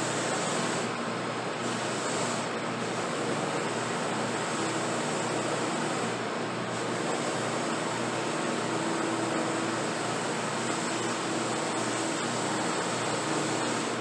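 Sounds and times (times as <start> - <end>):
workshop machine rushing noise: 0.0 - 14.0.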